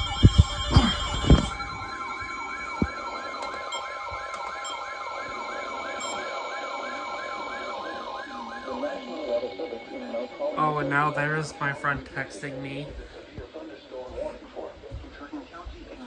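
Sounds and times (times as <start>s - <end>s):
electronic warbling alarm siren: 0.0s - 12.9s.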